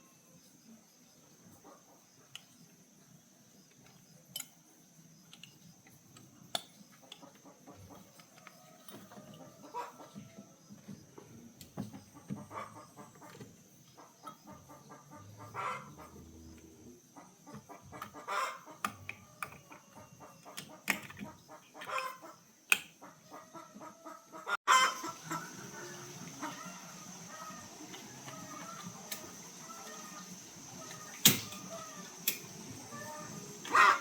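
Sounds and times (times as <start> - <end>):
chickens clucking: 1.5 - 2.3, 6.9 - 34.0.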